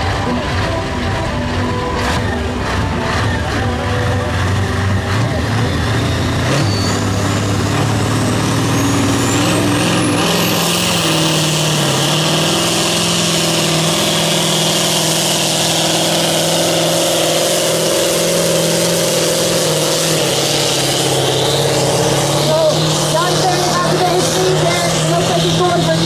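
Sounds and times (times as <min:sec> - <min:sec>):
diesel tractor engine under load: 0:00.0 - 0:26.0.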